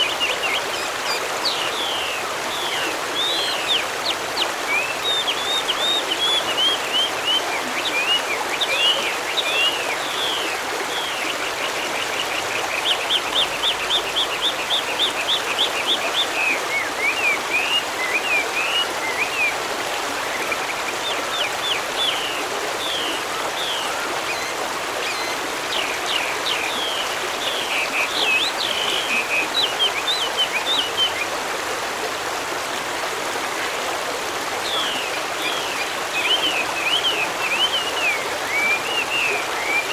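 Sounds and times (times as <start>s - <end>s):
small birds chirping: 0.0s - 31.3s, 34.6s - 39.9s
stream running: 0.0s - 39.9s.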